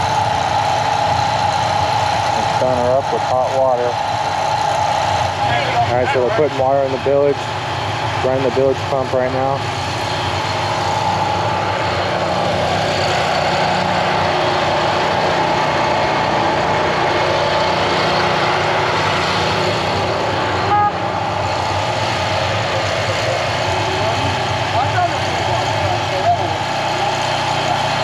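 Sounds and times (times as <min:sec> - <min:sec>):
bilge pump running: 0:00.0 - 0:28.0
steady engine hum: 0:00.0 - 0:28.0.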